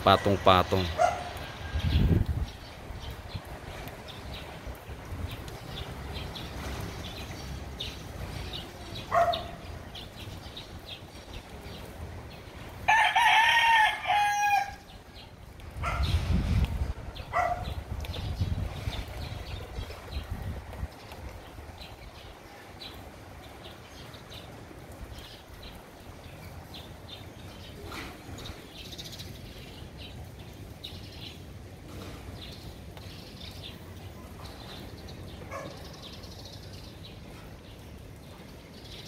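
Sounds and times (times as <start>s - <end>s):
small birds chirping: 0.8s - 12.8s, 14.7s - 39.0s.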